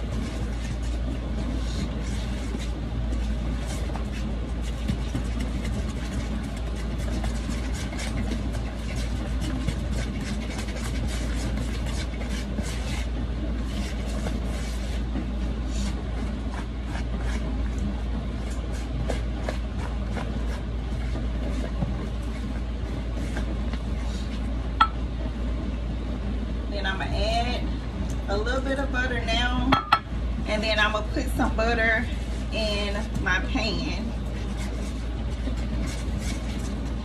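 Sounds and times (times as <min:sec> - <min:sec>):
utensil stirring batter in bowl: 0:00.0 - 0:25.6, 0:30.6 - 0:37.0.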